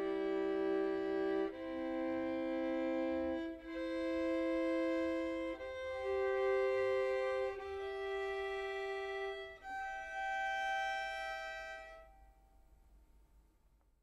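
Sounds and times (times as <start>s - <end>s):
violin double-stop chords: 0.0s - 12.3s.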